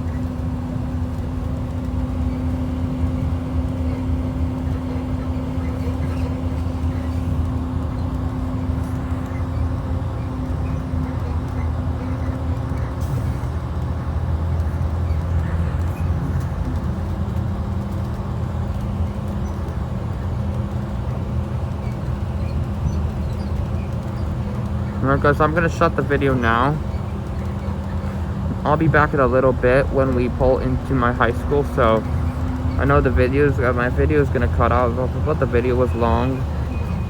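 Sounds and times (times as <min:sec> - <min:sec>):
bus diesel engine droning: 0:00.0 - 0:37.0.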